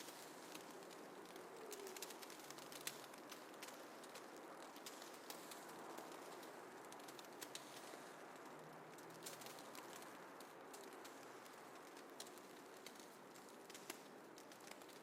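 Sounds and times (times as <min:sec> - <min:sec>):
faint snowfall hiss: 0:00.0 - 0:15.0
soft ticks and crackles: 0:00.0 - 0:15.0.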